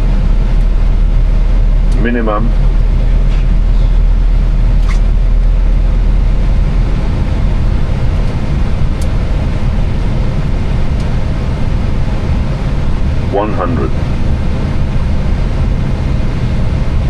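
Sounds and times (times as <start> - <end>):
airflow and engine rush: 0.0 - 17.0.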